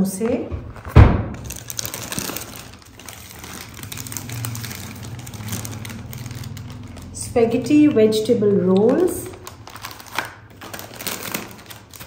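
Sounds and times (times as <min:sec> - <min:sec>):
plastic packaging crinkling: 0:00.8 - 0:08.2, 0:08.8 - 0:12.0.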